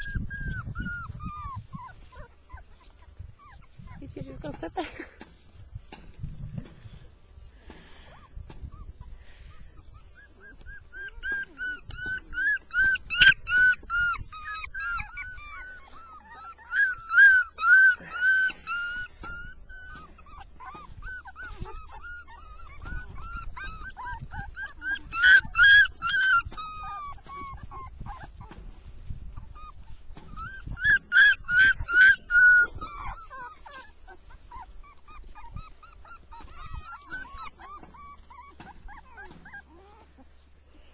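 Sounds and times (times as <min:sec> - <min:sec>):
puppies whimpering: 0:00.0 - 0:05.5, 0:07.9 - 0:40.9
puppies yipping: 0:00.0 - 0:05.5, 0:07.9 - 0:40.9.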